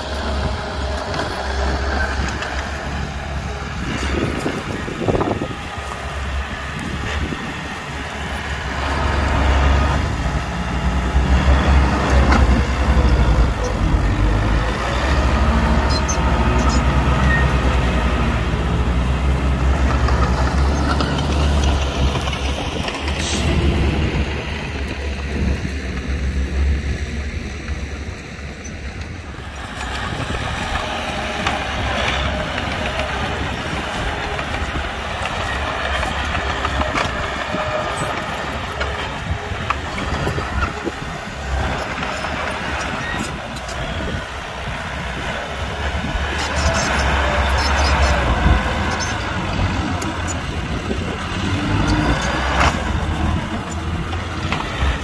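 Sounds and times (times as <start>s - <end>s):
heavy machinery diesel engines droning: 0.0s - 55.0s.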